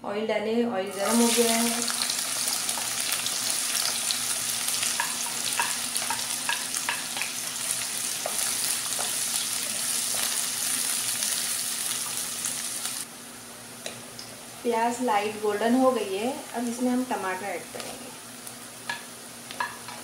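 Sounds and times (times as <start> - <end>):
onions sizzling in hot oil: 0.9 - 20.0.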